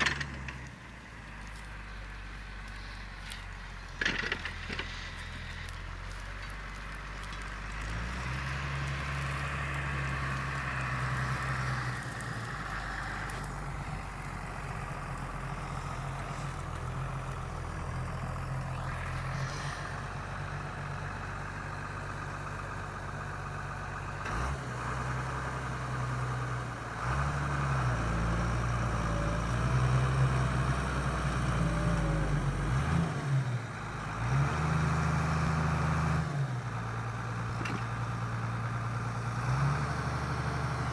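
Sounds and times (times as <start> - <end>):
tractor engine under load: 0.0 - 40.9.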